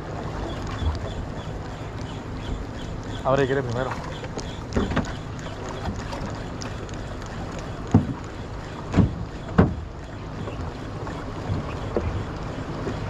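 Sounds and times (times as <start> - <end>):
water slapping against boat hull: 0.0 - 13.0
water wash: 0.0 - 13.0
wind: 0.0 - 13.0.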